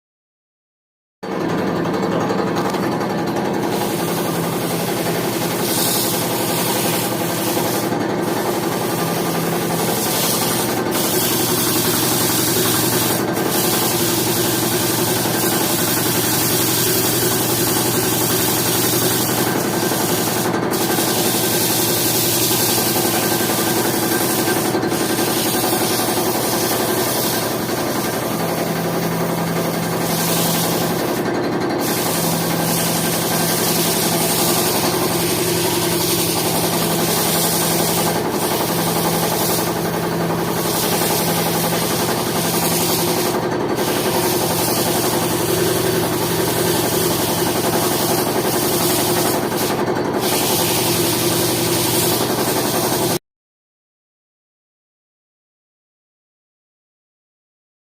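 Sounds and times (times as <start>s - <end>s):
power tool motor hum: 1.8s - 53.0s.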